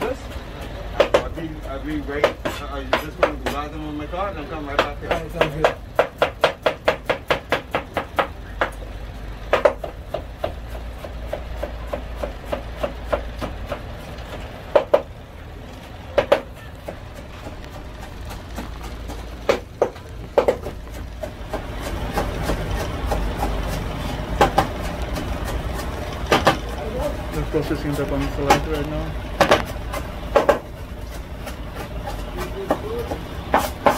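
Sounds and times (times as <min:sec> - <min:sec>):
knife chopping on cutting board: 0:01.0 - 0:01.4, 0:02.2 - 0:03.6, 0:04.8 - 0:08.7, 0:09.5 - 0:15.1, 0:16.2 - 0:27.5, 0:29.4 - 0:33.9.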